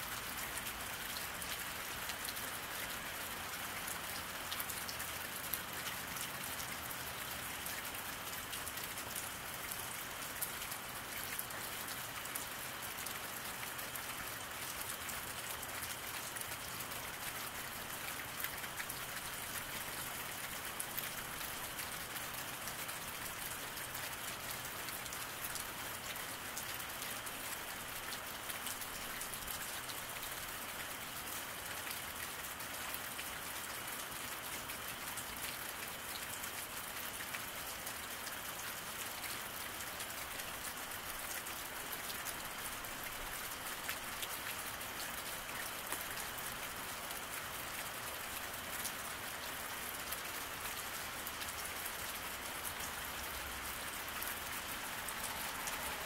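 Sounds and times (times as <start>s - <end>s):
rain falling on pavement: 0.0s - 56.0s.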